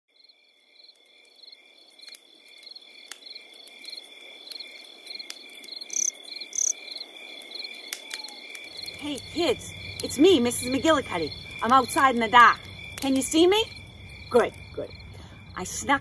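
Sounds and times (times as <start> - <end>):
crickets trilling: 0.1 - 16.0.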